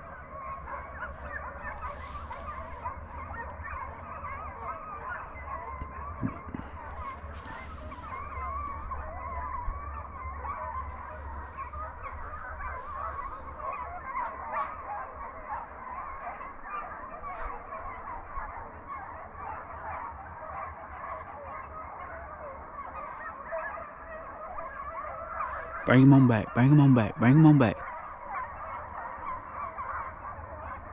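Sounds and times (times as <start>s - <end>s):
hounds baying: 0.0s - 30.9s.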